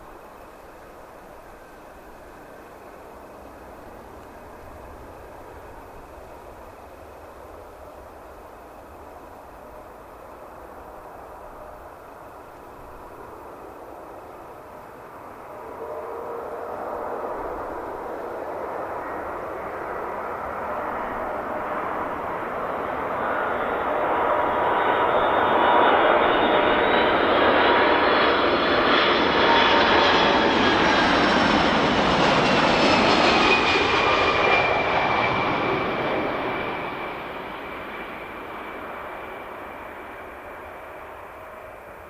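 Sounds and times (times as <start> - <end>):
airliner engines passing: 0.0 - 42.0.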